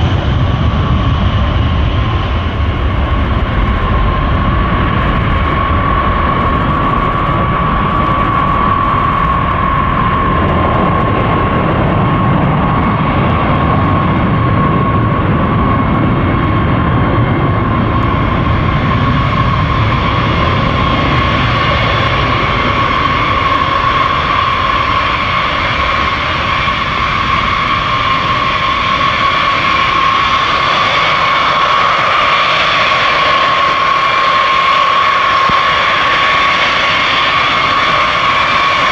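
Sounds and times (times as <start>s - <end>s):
deep rumble: 0.0s - 38.9s
jet engines whining: 0.0s - 38.9s.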